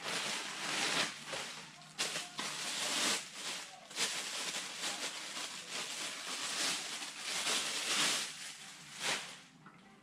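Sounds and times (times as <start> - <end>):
plastic bag rustling: 0.0 - 9.6.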